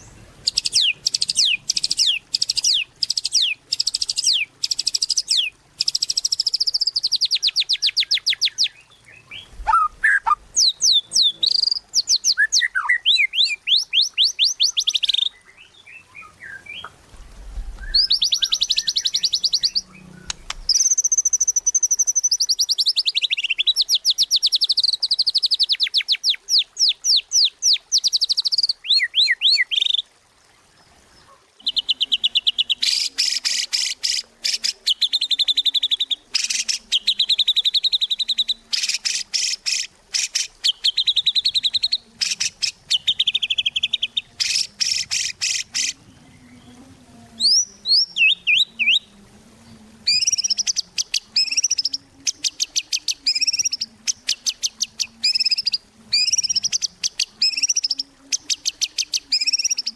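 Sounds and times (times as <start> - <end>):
bird singing fast trills: 0.0 - 17.0, 17.7 - 30.1, 31.6 - 46.8, 47.4 - 49.1, 50.1 - 59.9.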